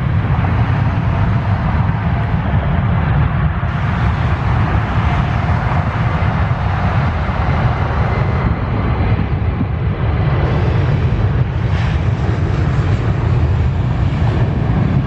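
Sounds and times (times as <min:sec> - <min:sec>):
jet engines running: 0:00.0 - 0:15.0
wind rumble on microphone: 0:00.0 - 0:15.0.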